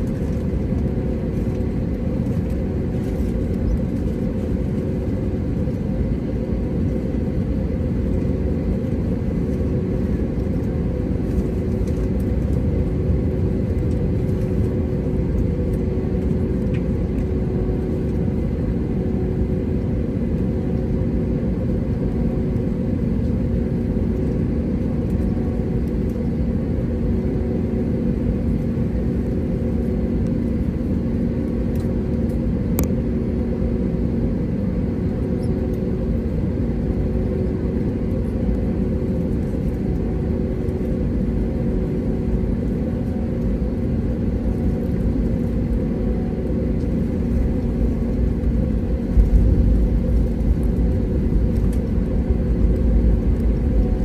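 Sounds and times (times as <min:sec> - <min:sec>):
aircraft cabin engine rumble: 0:00.0 - 0:54.0
constant hum: 0:00.0 - 0:54.0.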